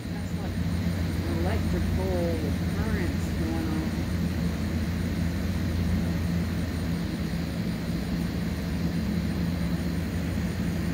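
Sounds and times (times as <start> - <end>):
low mechanical drone: 0.0 - 10.9.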